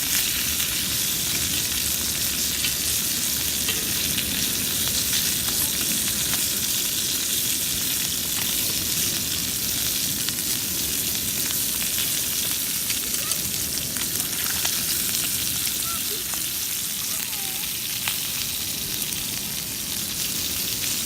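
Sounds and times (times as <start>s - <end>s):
chicken frying in a pan: 0.0s - 21.0s.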